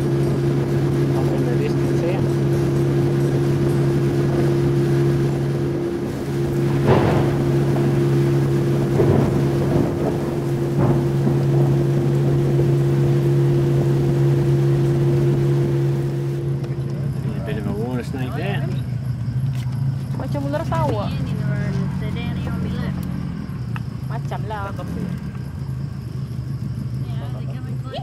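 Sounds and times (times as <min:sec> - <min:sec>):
boat motor droning: 0:00.0 - 0:28.0.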